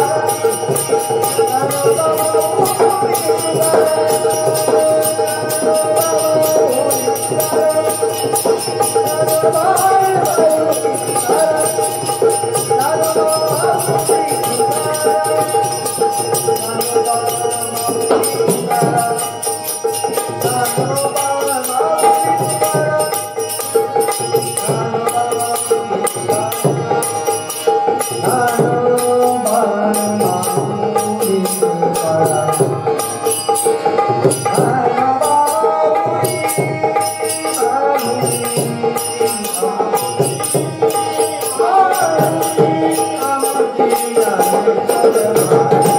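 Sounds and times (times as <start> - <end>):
devotional folk singing: 0.0 - 45.9
small jingling cymbals: 0.0 - 45.9.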